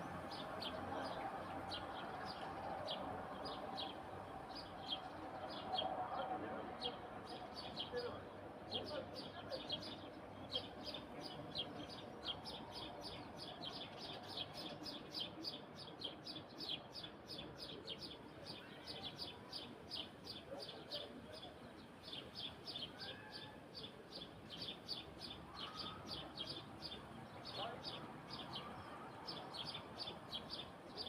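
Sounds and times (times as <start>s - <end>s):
faint low background sounds: 0.0s - 31.0s.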